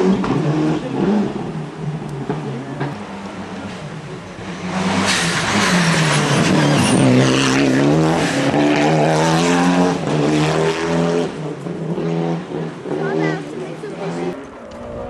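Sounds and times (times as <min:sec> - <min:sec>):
rally car engine at high revs: 0:00.0 - 0:15.0
tyre and road noise: 0:00.0 - 0:15.0.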